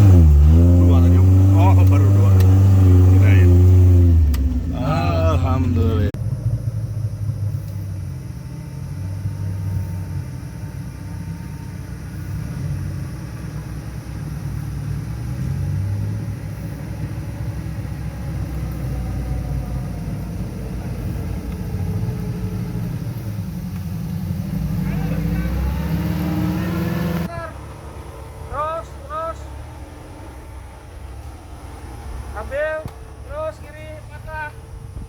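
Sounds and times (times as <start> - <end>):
engine running at low revs: 0.0 - 35.0.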